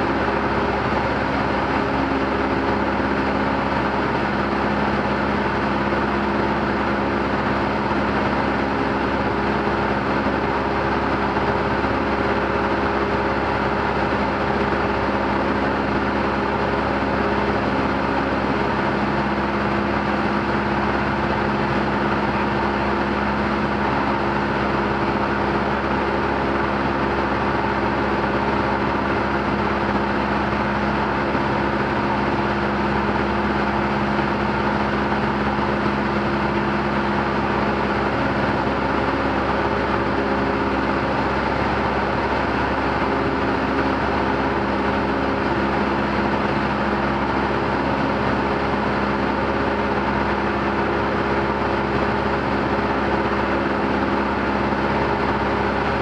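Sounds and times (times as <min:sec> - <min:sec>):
light aircraft engine droning: 0:00.0 - 0:56.0.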